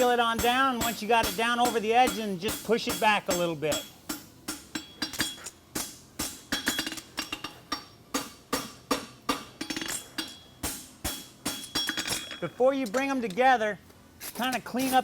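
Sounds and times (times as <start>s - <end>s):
hammer ringing on metal on anvil: 0.0s - 12.4s.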